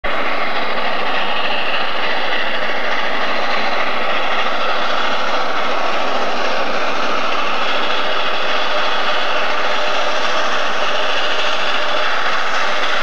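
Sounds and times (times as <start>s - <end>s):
steam locomotives rushing: 0.0s - 13.0s.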